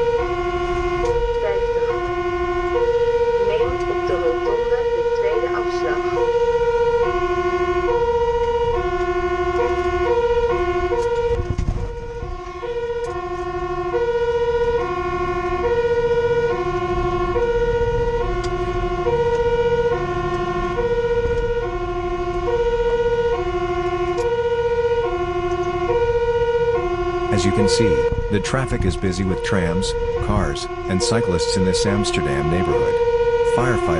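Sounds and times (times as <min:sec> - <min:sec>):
engine and road rumble: 0:00.0 - 0:33.9
fire engine two-tone siren: 0:00.0 - 0:33.9.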